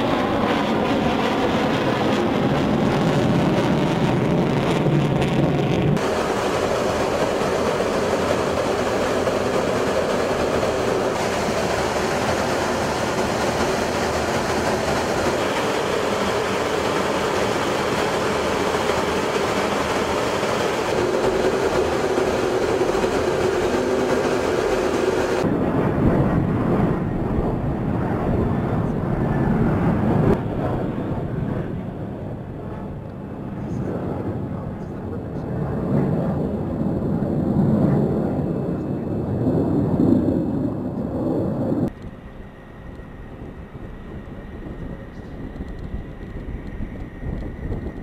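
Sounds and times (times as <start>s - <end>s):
drone of engines and rushing air: 0.0s - 48.0s
jet engines rumbling: 0.0s - 48.0s.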